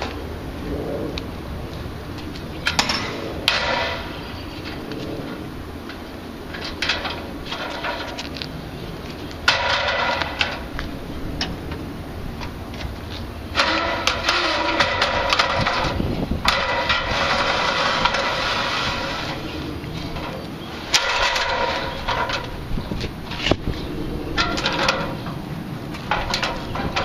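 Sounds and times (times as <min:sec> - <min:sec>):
steady low hum: 0:00.0 - 0:27.0
ladder metallic clanks and rattles: 0:02.2 - 0:08.5, 0:09.1 - 0:11.6, 0:12.4 - 0:23.6, 0:24.4 - 0:27.0.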